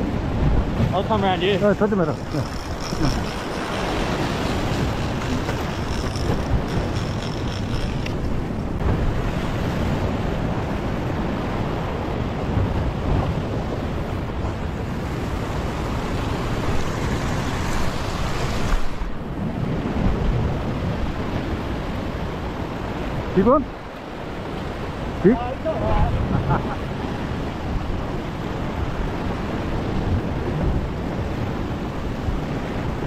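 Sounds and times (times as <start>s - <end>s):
wind buffeting microphone: 0.0s - 23.3s, 24.3s - 33.0s
ocean surf washing over rocks: 0.0s - 33.0s.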